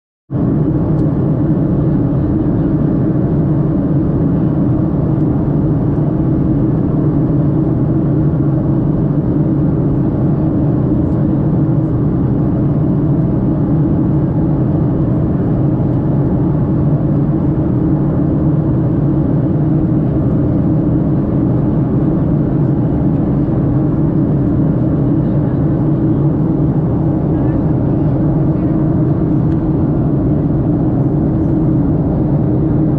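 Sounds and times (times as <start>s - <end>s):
airliner cabin engine drone: 0.3s - 32.9s.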